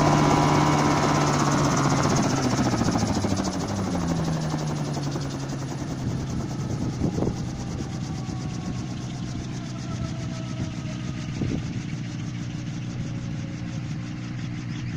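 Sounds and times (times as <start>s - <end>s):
model helicopter engine running: 0.0s - 14.9s.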